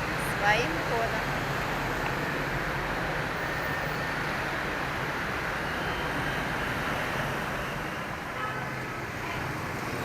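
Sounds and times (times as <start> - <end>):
city street traffic hum: 0.0 - 10.0.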